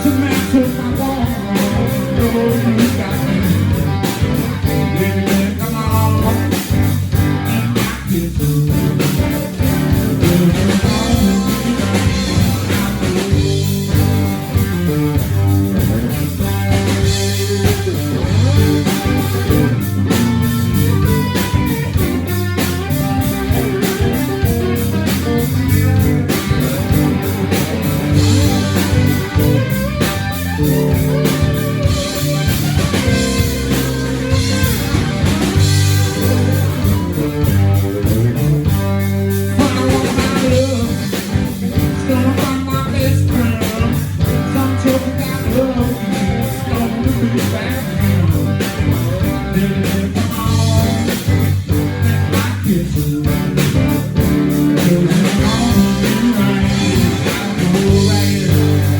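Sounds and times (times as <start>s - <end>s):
blues-rock band playing: 0.0s - 58.9s
drum kit: 0.0s - 58.9s
electric guitar lead: 0.0s - 58.9s.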